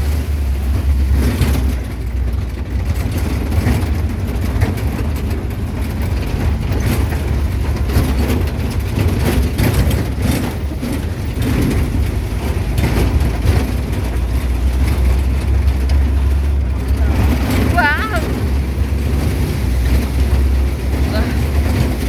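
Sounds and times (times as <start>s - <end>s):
jeep engine and road rumble: 0.0s - 22.0s
knocks and rattles: 0.0s - 22.0s.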